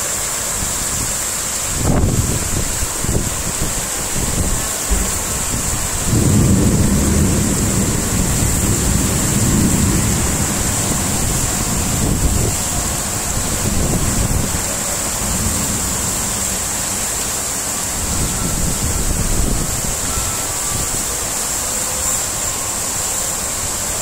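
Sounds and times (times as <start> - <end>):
heavy rain pouring: 0.0 - 24.0
wind buffeting microphone: 0.6 - 21.4.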